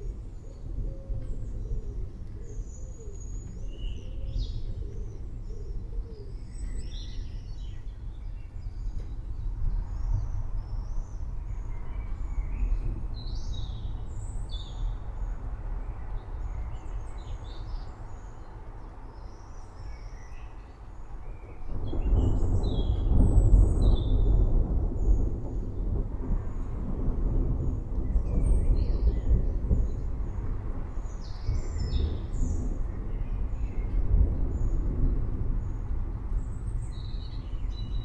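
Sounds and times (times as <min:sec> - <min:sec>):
low storm rumble: 0:00.0 - 0:38.0.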